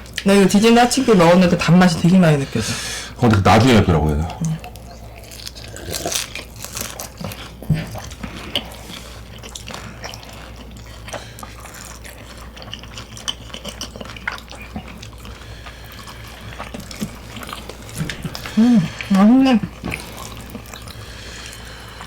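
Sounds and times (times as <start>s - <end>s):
wet chewing: 0.9s - 22.0s.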